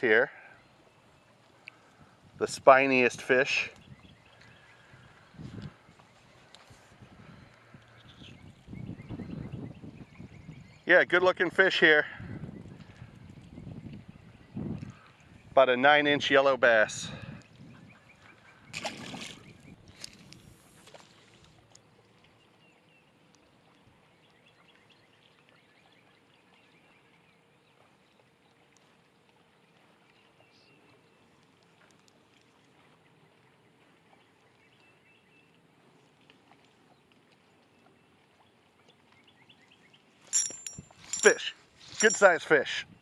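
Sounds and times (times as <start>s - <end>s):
small waves lapping: 0.0s - 8.8s, 14.0s - 15.6s, 17.2s - 42.7s
wind: 0.0s - 43.0s.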